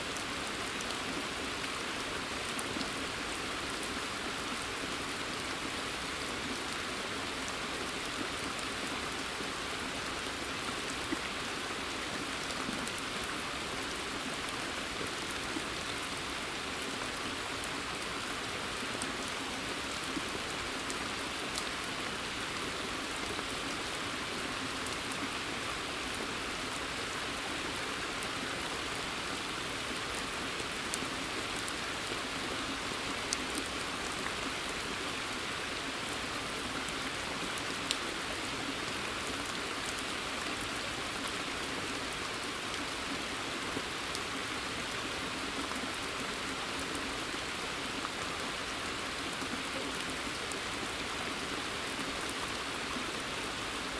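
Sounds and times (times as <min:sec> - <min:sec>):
steady rain: 0:00.0 - 0:53.9.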